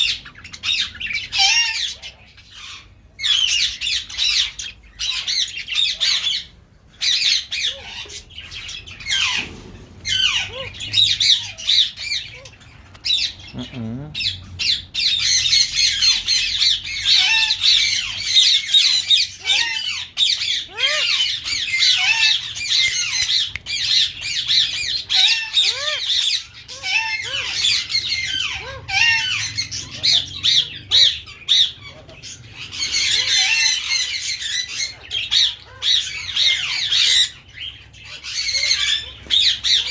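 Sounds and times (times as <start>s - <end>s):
caged birds chattering and squawking: 0.0s - 39.9s.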